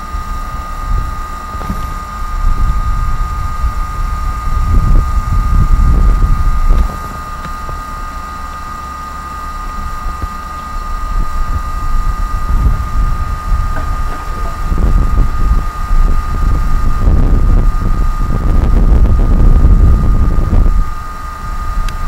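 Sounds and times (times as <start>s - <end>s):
steady high-pitched whine: 0.0s - 22.0s
wind buffeting microphone: 0.0s - 22.0s.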